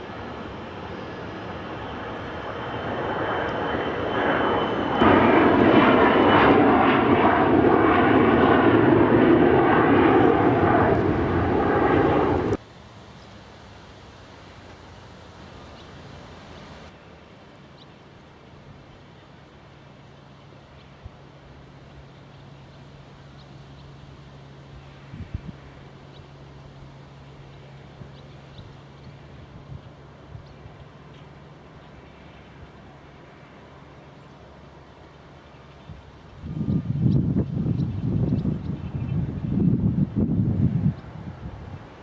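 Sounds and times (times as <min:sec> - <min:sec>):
airliner engines: 0:00.0 - 0:42.0
faint outdoor background: 0:00.0 - 0:42.0.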